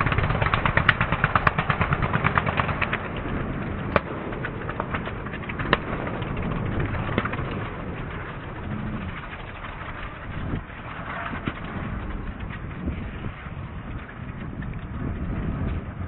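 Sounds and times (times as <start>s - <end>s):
exhaust pops: 0.0s - 16.0s
lawn mower engines: 0.0s - 16.0s.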